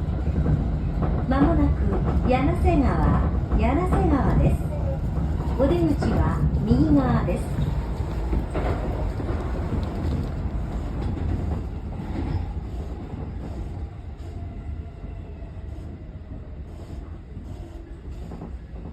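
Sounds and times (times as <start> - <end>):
train running rumble: 0.0 - 18.9.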